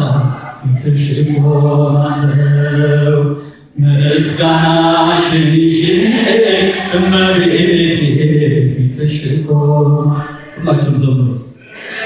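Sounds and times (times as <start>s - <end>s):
voices chanting a hymn: 0.0s - 12.0s.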